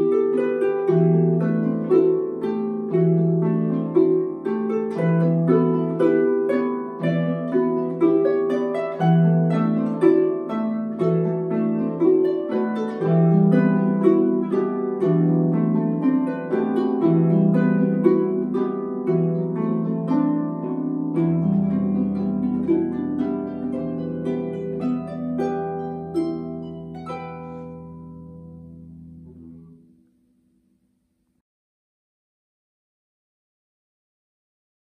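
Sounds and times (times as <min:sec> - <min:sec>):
plucked harps duo: 0:00.0 - 0:30.0.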